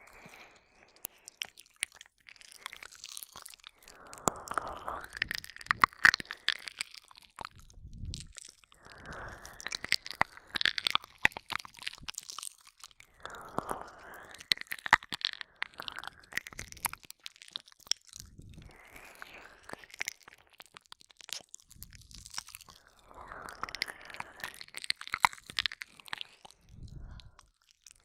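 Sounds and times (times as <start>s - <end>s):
wet mouth licking and smacking: 0.0s - 28.0s.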